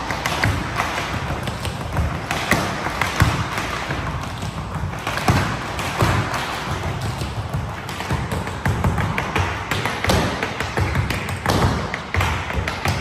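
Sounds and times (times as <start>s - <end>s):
tap shoes on wooden floor: 0.0s - 13.0s.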